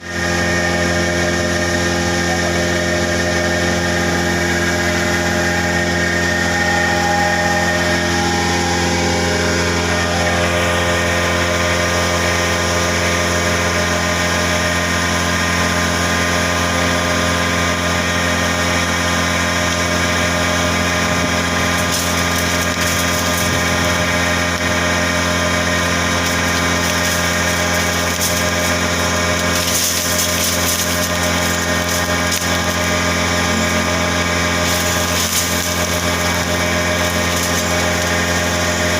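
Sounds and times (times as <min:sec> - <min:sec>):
wood chip grinder humming: 0:00.0 - 0:38.9.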